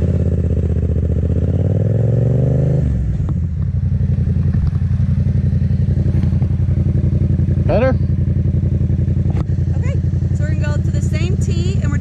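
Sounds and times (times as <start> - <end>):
motorcycle engine revving then idling: 0.0 - 12.0.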